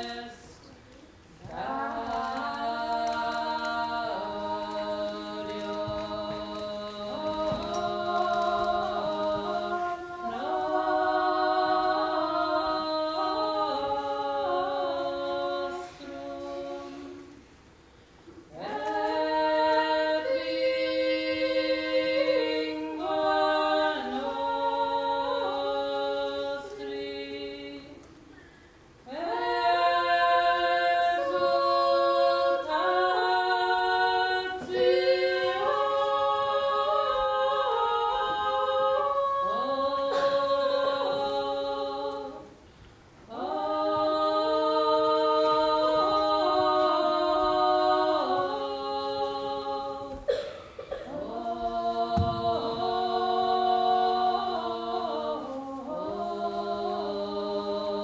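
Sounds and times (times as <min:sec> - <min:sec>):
women singing in harmony: 0:00.0 - 0:00.8, 0:01.4 - 0:17.5, 0:18.4 - 0:42.6, 0:43.2 - 0:58.0.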